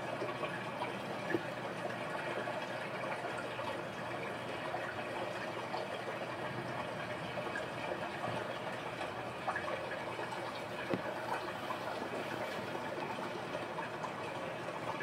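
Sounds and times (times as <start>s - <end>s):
water dripping from gutters: 0.0s - 15.0s.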